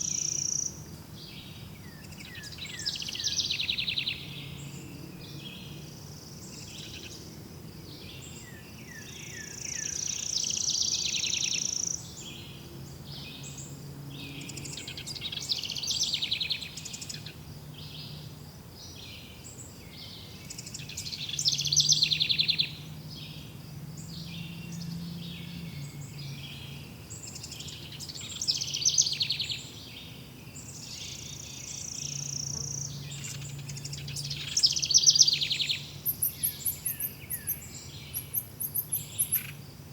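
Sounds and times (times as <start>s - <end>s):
forest birds singing: 0.0s - 39.9s.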